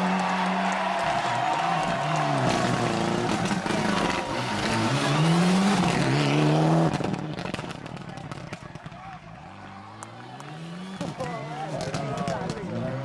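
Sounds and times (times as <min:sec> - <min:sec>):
rally car engine revving: 0:01.8 - 0:13.0.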